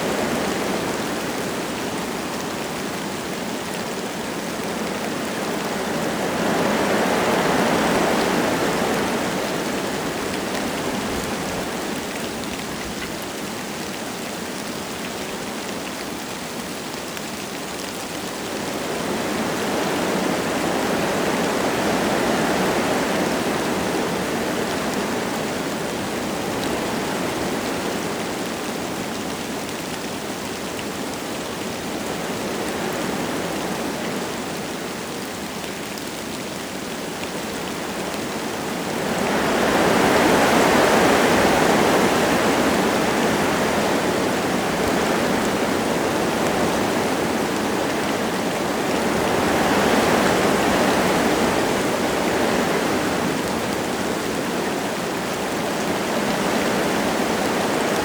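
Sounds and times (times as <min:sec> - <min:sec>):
light rain falling: 0:00.0 - 0:58.0
wind gusting through trees: 0:00.0 - 0:58.0.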